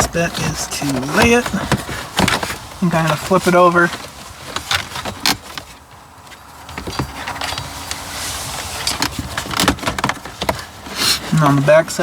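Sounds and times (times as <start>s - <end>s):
plastic knocks and rubbing: 0.0s - 11.8s.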